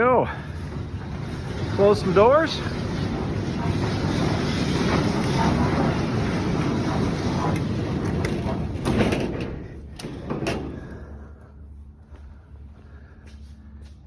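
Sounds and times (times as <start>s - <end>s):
sliding door rolling on track: 0.0s - 11.4s.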